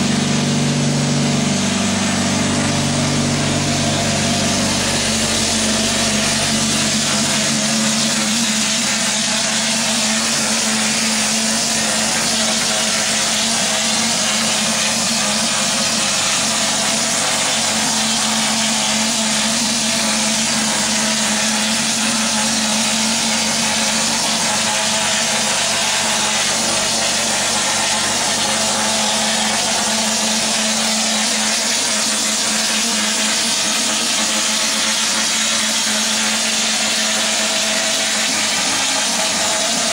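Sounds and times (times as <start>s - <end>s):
spray foam gun hissing: 0.0s - 39.9s.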